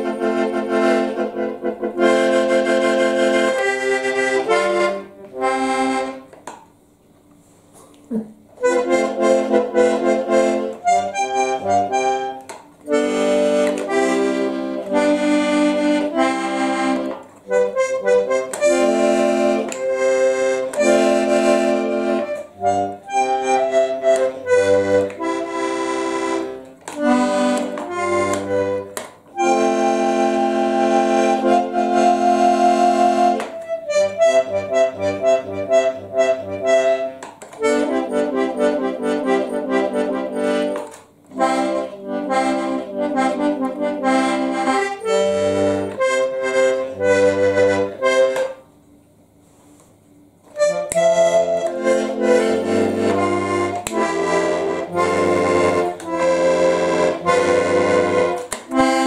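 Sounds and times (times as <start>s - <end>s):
button accordion playing: 0.0s - 6.6s, 8.1s - 48.7s, 50.4s - 59.0s.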